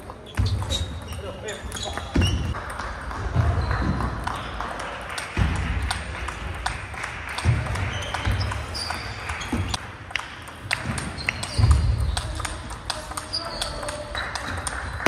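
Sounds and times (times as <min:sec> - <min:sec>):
murmur of hall: 0:00.0 - 0:15.0
table tennis balls clicking: 0:00.0 - 0:15.0.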